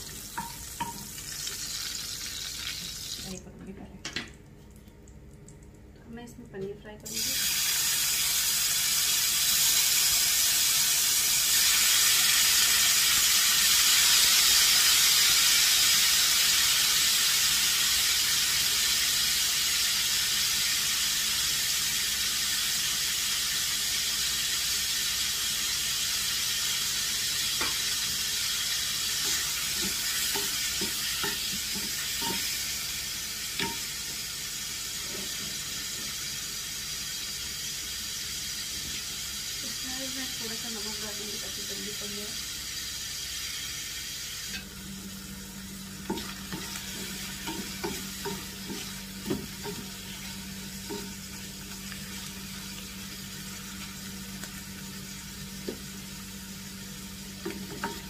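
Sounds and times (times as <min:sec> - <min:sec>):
cheese sizzling in hot oil: 0:00.0 - 0:03.5, 0:07.0 - 0:58.0.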